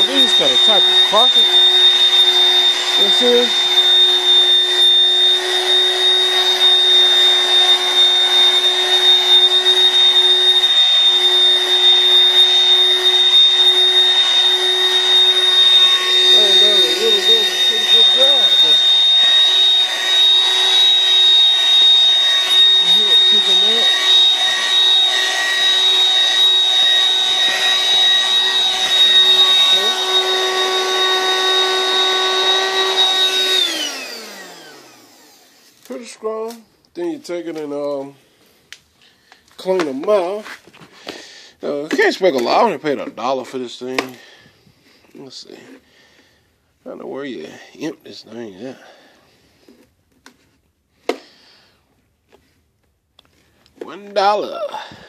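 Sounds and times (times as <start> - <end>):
handheld vacuum cleaner whining: 0.0 - 55.0.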